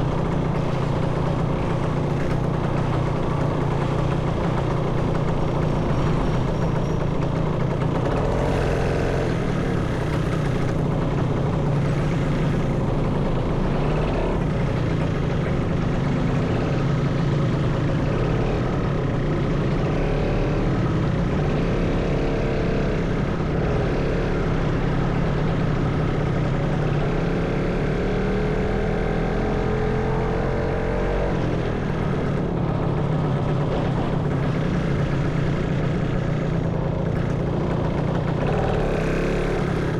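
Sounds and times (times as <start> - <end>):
engine revving: 0.0 - 6.4, 8.0 - 39.9
motorcycle engine running: 0.0 - 39.9.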